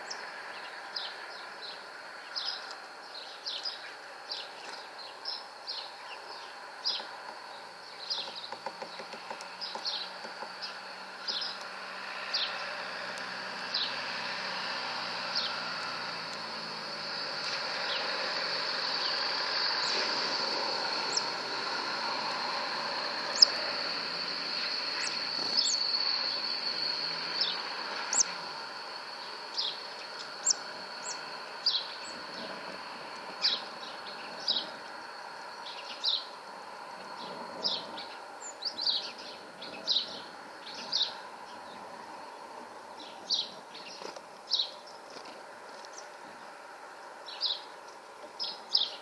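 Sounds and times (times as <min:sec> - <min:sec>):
high-pitched whine: 0:00.0 - 0:49.0
small birds chirping: 0:00.0 - 0:49.0.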